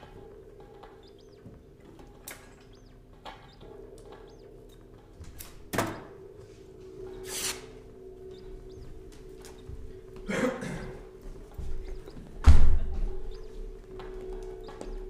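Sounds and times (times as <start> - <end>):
low electronic drone: 0.0 - 15.0.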